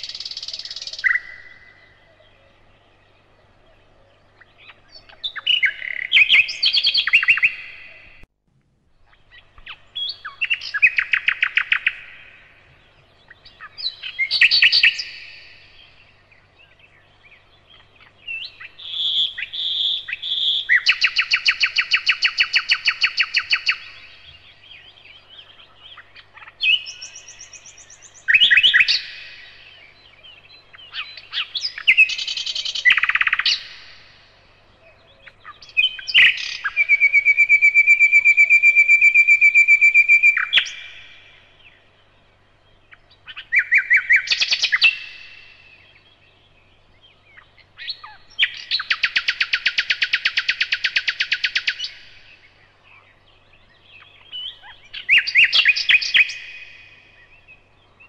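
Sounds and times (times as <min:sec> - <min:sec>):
nightingale singing: 0:00.0 - 0:08.3, 0:08.9 - 0:58.0.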